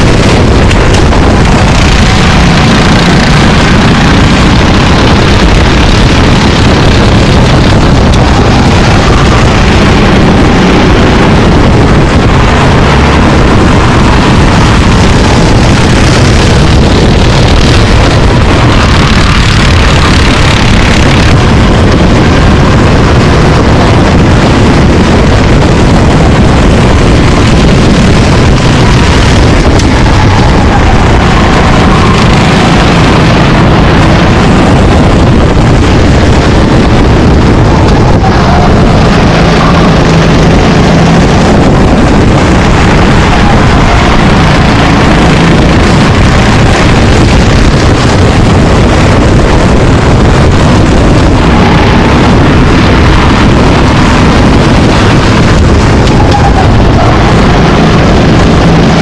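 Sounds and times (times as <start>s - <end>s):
go-kart engines running: 0.0s - 59.0s.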